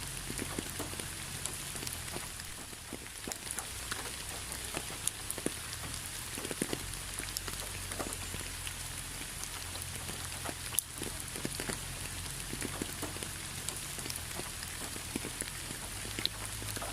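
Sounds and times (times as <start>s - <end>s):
rain falling steadily: 0.0s - 16.9s
raindrops tapping on a surface: 0.0s - 16.9s.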